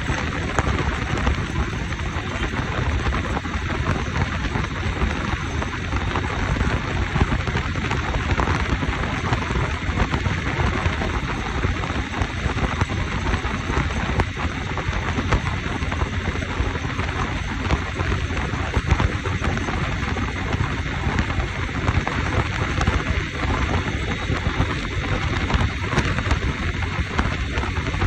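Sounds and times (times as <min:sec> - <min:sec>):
wind rushing on microphone: 0:00.0 - 0:28.0.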